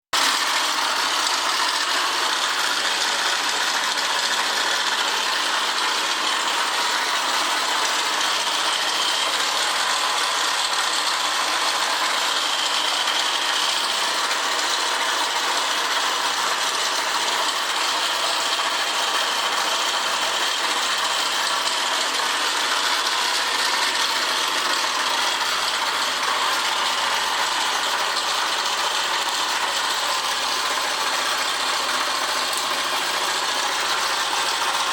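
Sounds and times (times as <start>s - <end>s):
mechanical engine noise: 0.2s - 34.9s
motorcycle engine running: 0.2s - 34.9s.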